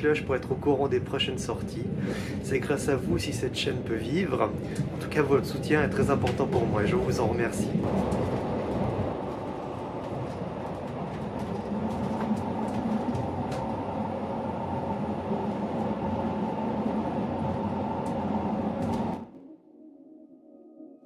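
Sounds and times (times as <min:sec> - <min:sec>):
train running: 0:00.0 - 0:19.3.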